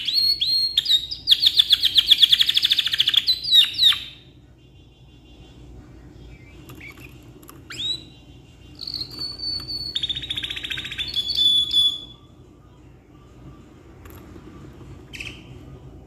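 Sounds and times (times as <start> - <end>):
canary singing: 0.0 - 13.7, 14.5 - 16.0.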